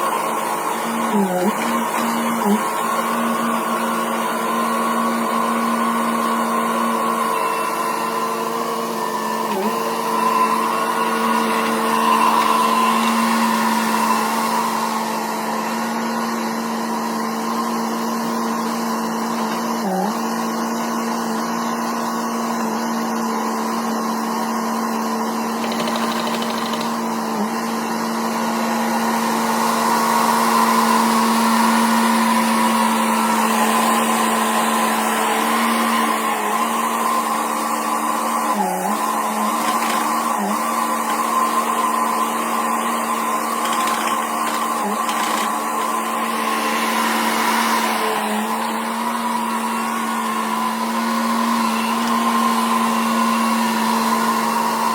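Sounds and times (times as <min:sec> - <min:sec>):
skid steer engine running: 0:00.0 - 0:54.9.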